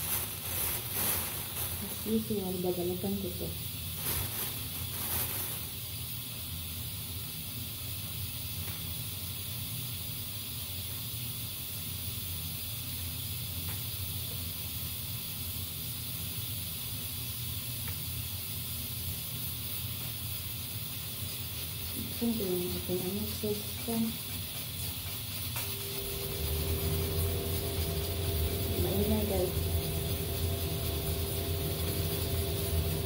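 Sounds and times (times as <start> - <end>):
steady hissing: 0.0 - 33.0.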